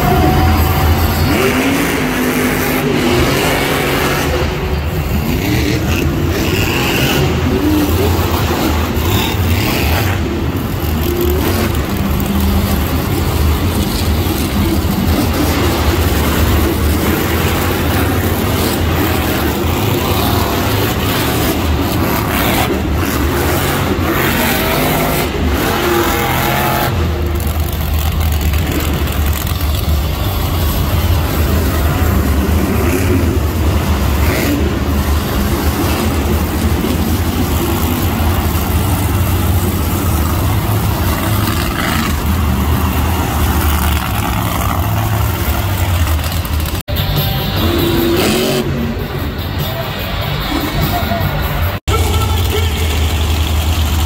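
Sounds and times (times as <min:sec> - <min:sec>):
truck engines revving loudly: 0:00.0 - 0:54.0.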